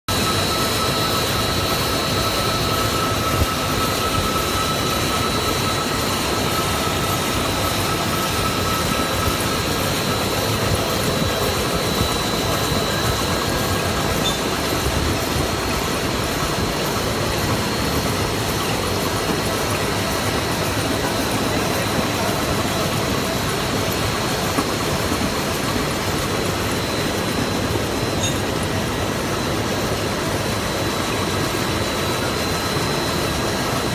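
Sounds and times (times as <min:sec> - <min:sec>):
faint high whine: 0:00.1 - 0:33.9.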